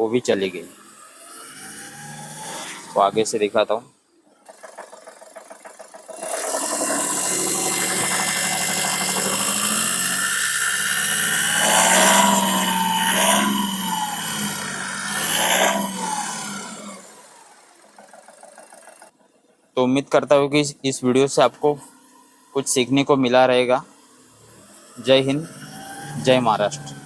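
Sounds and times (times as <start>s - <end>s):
diesel engine idling and revving: 0.0s - 3.6s, 4.5s - 19.4s, 23.9s - 27.0s.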